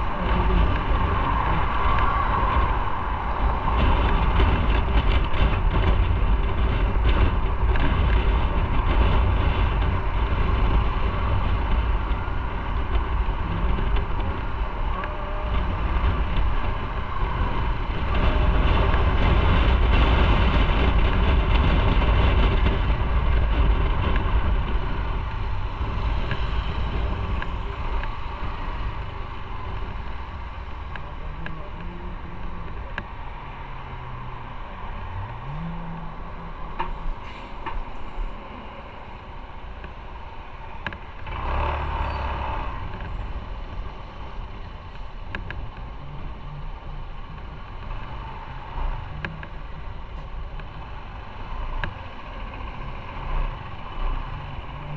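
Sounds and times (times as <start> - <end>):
road and wind noise: 0.0 - 54.9.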